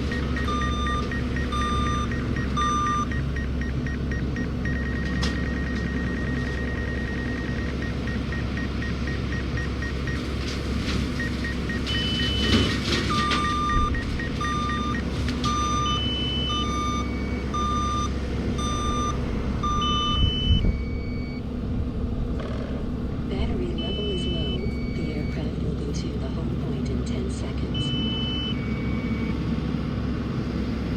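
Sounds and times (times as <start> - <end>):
drone warning beeps: 0.0 - 10.3, 11.1 - 21.5, 22.4 - 29.4
low engine hum: 0.0 - 30.9.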